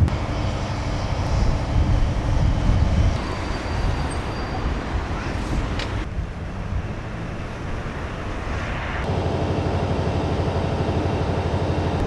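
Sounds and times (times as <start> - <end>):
diesel train rumbling past: 0.0 - 12.0.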